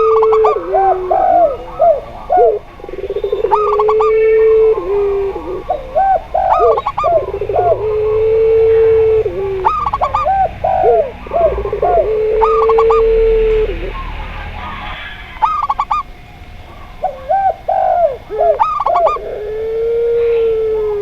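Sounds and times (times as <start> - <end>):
long low dove coo: 0.0 - 14.4, 16.7 - 21.0
high trilled dove coos: 0.0 - 21.0
low hooked dove coos: 0.0 - 21.0.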